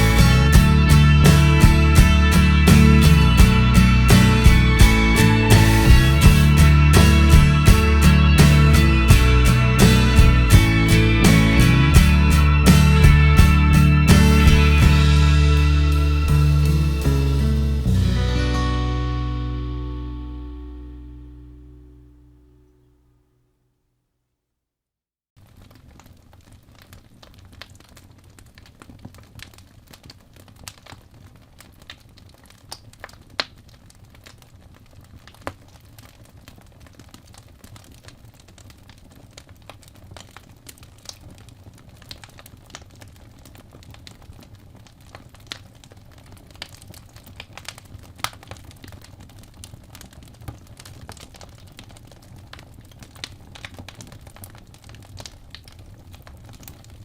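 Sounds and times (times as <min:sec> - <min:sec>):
fire crackling in fireplace: 0:00.0 - 0:18.8, 0:25.4 - 0:57.0.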